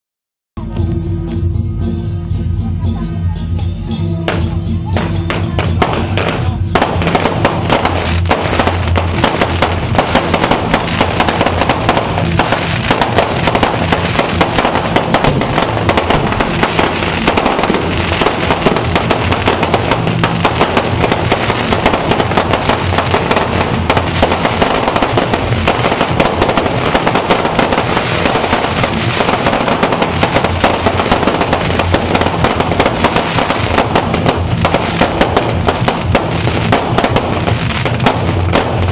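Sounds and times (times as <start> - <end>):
music with low bass: 0.6 - 38.9
fireworks bangs and crackles: 4.2 - 38.9.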